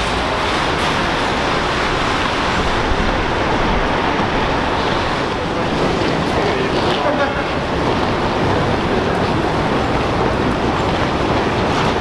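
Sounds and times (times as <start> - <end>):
urban traffic noise: 0.0 - 12.0.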